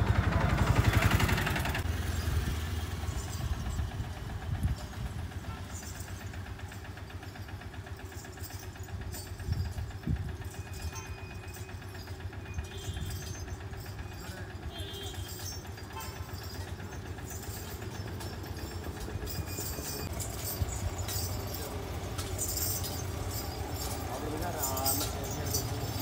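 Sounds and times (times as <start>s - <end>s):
small petrol engine idling: 0.0s - 26.0s.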